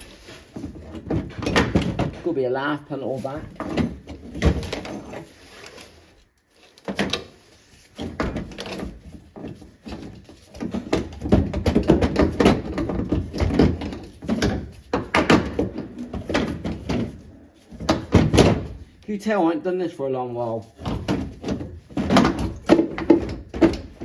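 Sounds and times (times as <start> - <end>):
car parts clunking and rattling: 0.0 - 2.5, 3.2 - 19.0, 20.6 - 24.0.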